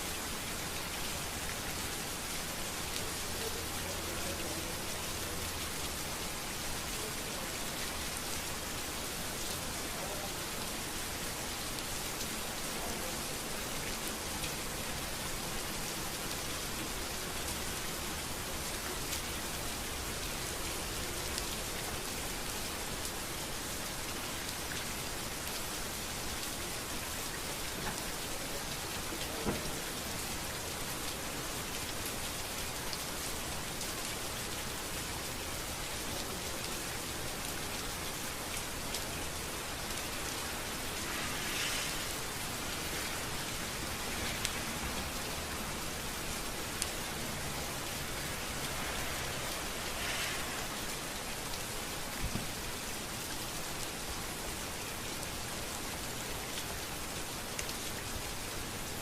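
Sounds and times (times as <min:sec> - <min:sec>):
rain falling on a street: 0:00.0 - 0:59.0.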